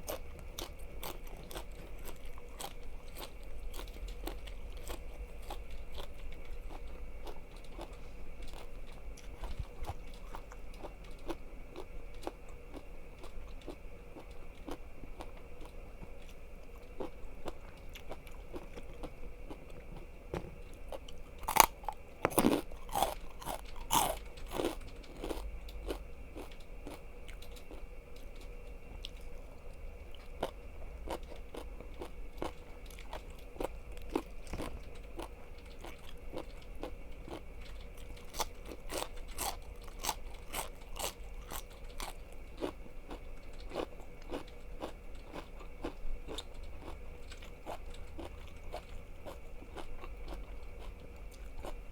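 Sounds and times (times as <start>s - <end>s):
crunching bites and chewing: 0.0s - 51.9s.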